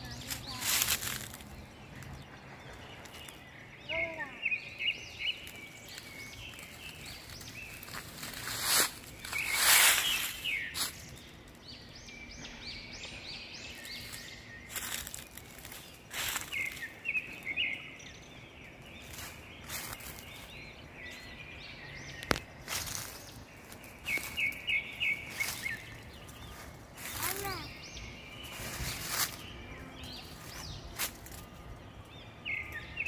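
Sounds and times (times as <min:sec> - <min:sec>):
mockingbird singing: 0:00.0 - 0:33.0.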